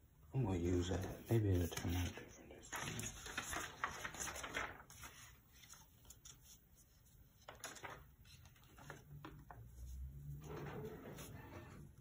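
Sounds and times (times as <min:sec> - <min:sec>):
paper sheet rustling: 0:00.7 - 0:12.0.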